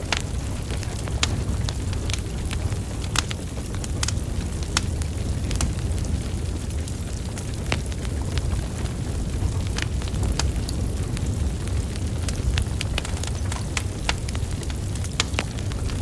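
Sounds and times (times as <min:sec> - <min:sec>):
crackles and pops from logs: 0:00.0 - 0:16.0
low rumble of flames: 0:00.0 - 0:16.0.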